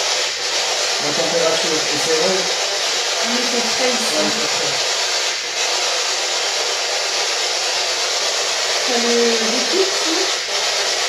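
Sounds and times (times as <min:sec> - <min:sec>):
electronic static hiss: 0:00.0 - 0:11.0.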